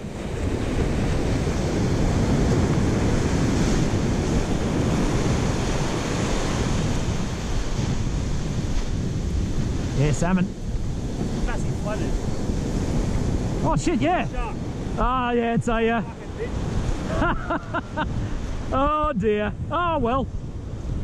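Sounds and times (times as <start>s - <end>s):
surf breaking: 0.0s - 20.1s
wind buffeting microphone: 0.0s - 21.0s.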